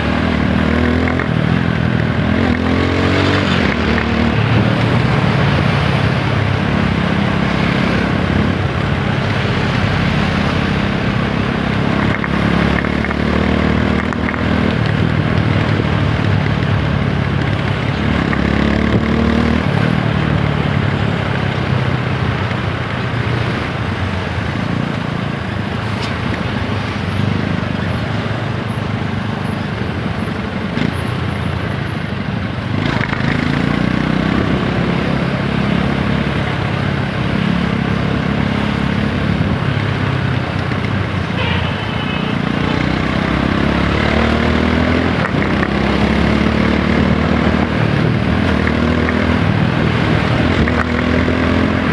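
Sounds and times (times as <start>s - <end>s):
motorcycle engine accelerating: 0.0s - 29.3s, 32.6s - 51.9s
wind and road noise: 0.0s - 51.9s.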